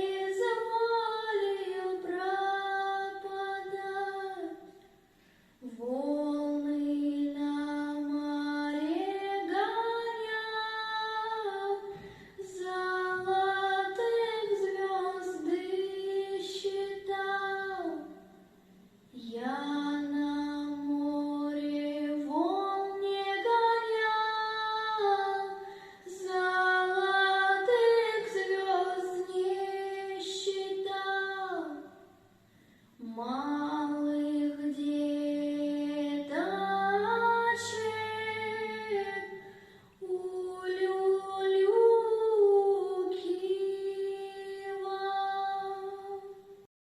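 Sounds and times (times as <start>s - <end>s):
girl singing lullaby: 5.6s - 18.2s, 19.2s - 31.9s, 33.0s - 46.5s.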